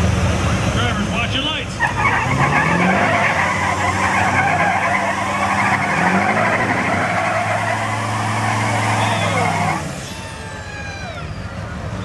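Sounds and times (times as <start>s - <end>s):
tires spinning on pavement: 0.0s - 12.0s
truck engines revving hard: 0.0s - 12.0s.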